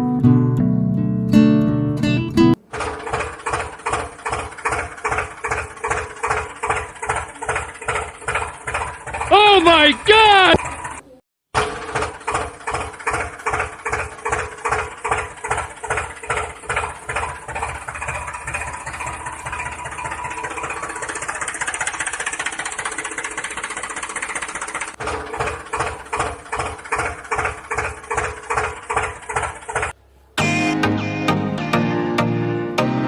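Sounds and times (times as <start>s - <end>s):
tractor engine chugging: 2.4s - 30.3s.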